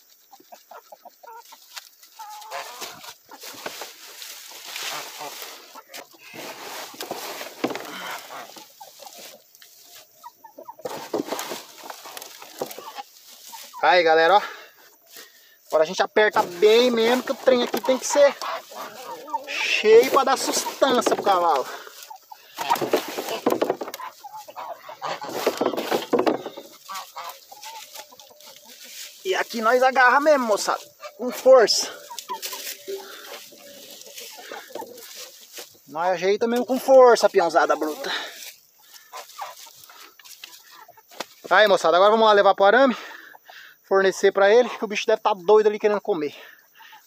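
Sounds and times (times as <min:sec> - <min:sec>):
dry stalks rustling and crunching: 0:00.0 - 0:42.2
chickens clucking: 0:00.0 - 0:47.0.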